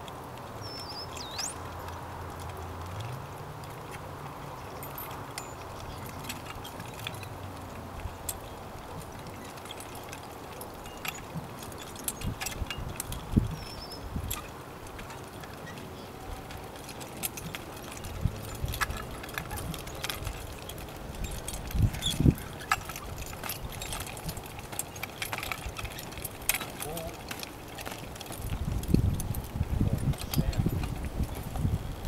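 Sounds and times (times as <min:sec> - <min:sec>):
horse hooves thumping: 0:00.0 - 0:32.0
harness jingling and clinking: 0:00.6 - 0:32.0.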